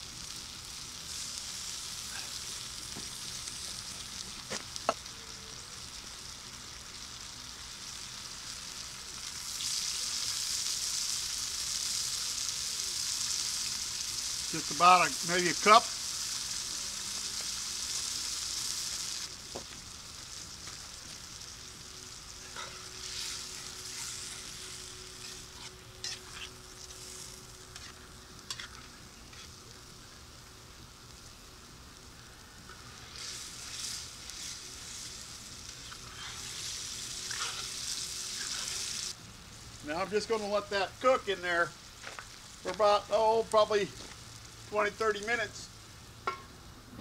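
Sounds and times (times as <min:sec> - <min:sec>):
tomato sauce sizzling in a pot: 0:00.0 - 0:46.7.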